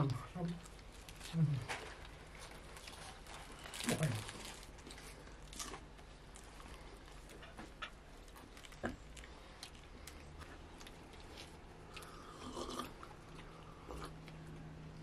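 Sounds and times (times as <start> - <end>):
bread tearing rustles and clicks: 0.0 - 12.1
quiet chewing: 0.0 - 15.0.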